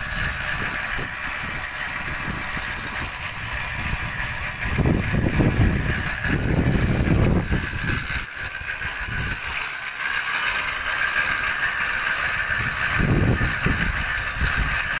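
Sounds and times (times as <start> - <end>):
paddlewheel aerator splashing water: 0.0 - 15.0.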